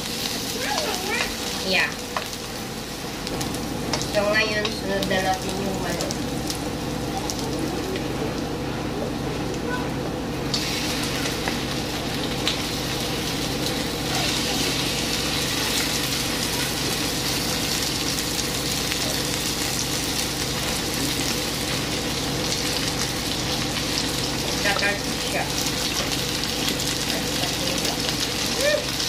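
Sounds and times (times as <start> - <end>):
steady low hum: 0.0 - 28.8
chicken sizzling in a frying pan: 0.0 - 29.0.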